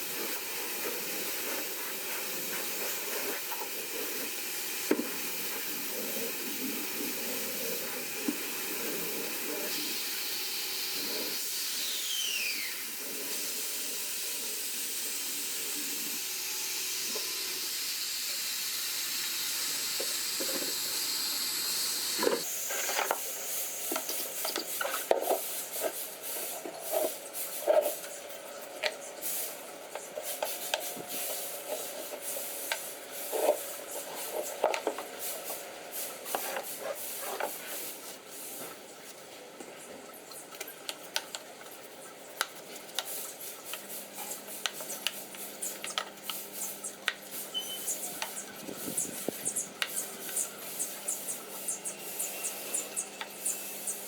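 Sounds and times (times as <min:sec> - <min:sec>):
cleaning equipment spray hissing: 0:00.0 - 0:38.7, 0:42.9 - 0:54.0.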